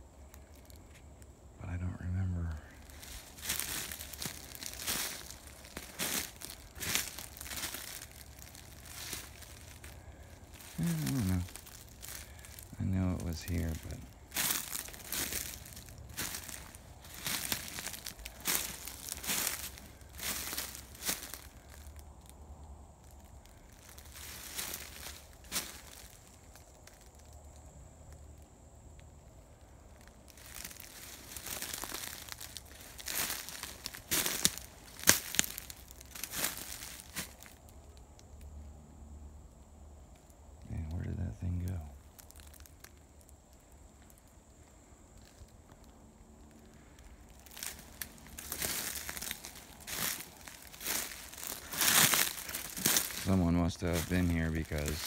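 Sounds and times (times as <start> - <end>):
dry leaves crunching: 1.6 - 28.6, 29.4 - 38.2, 40.7 - 55.0.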